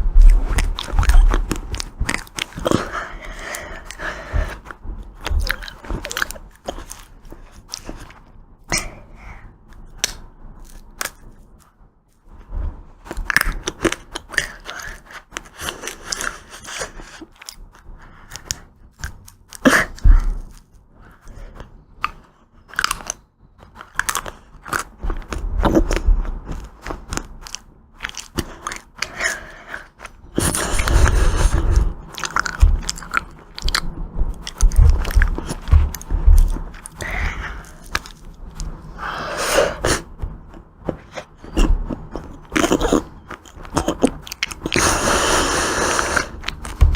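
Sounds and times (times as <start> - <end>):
crunchy ice cream chewing: 0.0 - 46.9.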